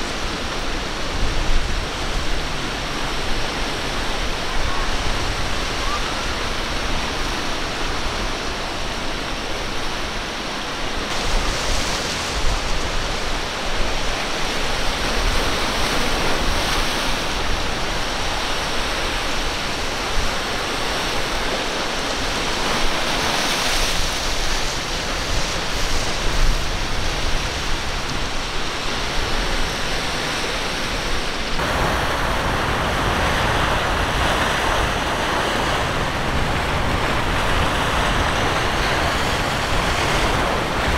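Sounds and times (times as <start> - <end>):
waves breaking: 0.0 - 40.9
wind on microphone: 0.0 - 40.9.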